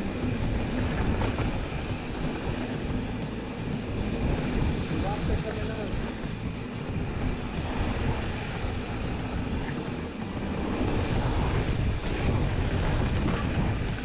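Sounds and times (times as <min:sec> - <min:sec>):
bike tyres rolling on dirt: 0:00.0 - 0:14.0
wind buffeting microphone: 0:00.0 - 0:14.0.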